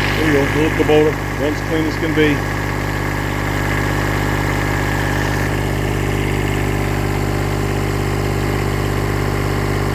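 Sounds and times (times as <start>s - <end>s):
tractor diesel engine idling: 0.0s - 9.9s.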